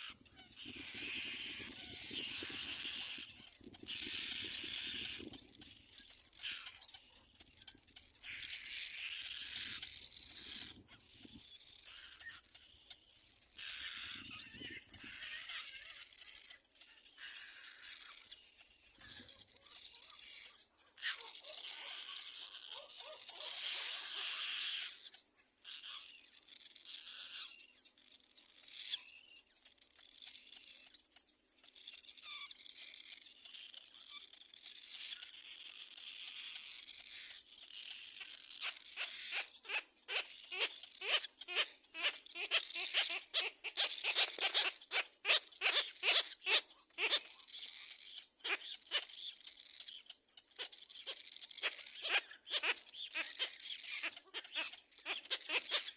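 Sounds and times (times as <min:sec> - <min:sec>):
bird chick calling: 0:00.0 - 0:27.8, 0:35.0 - 0:55.9.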